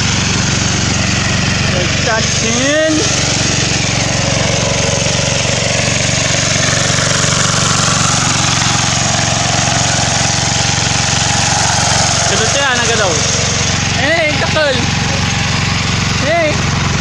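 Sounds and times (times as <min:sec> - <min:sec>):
small tractor engine droning: 0:00.0 - 0:17.0.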